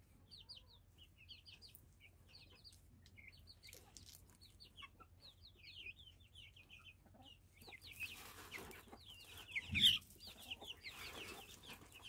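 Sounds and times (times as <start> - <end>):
young chickens peeping and clucking: 0.0 - 12.0.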